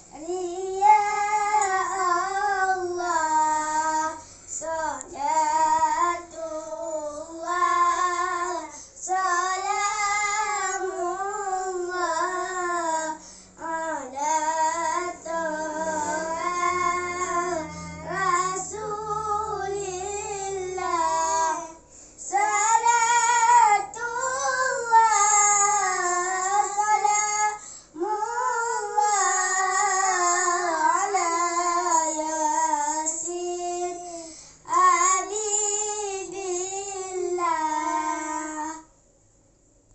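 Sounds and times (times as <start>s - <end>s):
boys singing unaccompanied: 0.0s - 38.9s.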